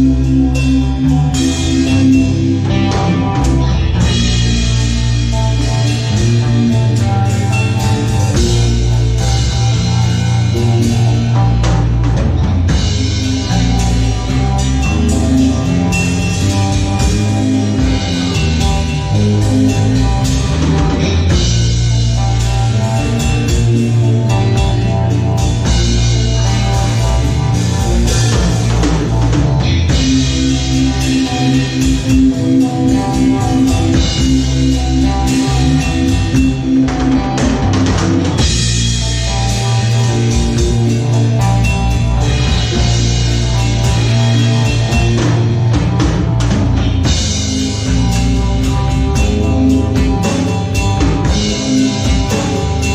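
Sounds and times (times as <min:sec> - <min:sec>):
drum kit: 0:00.0 - 0:52.9
guitar: 0:00.0 - 0:52.9
low bass line: 0:00.0 - 0:52.9
psychedelic rock music: 0:00.0 - 0:52.9.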